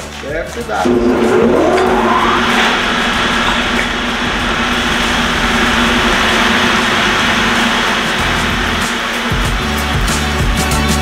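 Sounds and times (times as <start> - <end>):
stone-cutting saw spinning up: 0.8 - 10.4.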